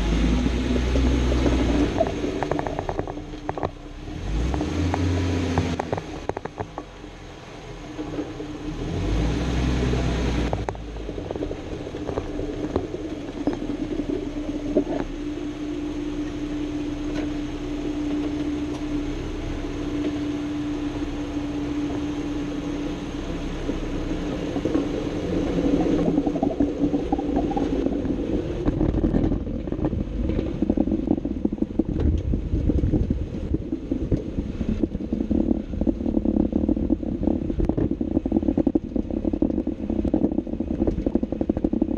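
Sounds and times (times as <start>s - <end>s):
drivetrain and road rumble: 0.0s - 41.9s.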